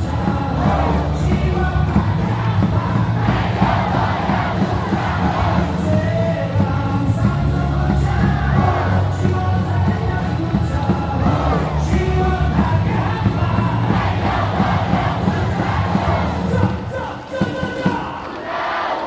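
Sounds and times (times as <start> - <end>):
loud music over speakers: 0.0 - 17.8
crowd singing and chanting: 0.0 - 19.0.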